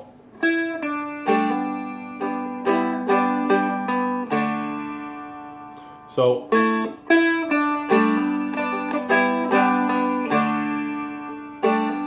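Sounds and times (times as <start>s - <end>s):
dulcimer picking melody: 0.0s - 12.0s.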